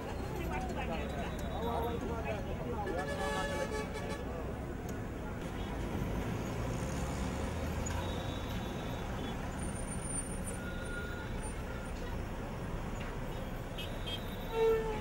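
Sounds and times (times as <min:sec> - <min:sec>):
bus engine rumbling: 0:00.0 - 0:15.0
road traffic: 0:00.0 - 0:15.0.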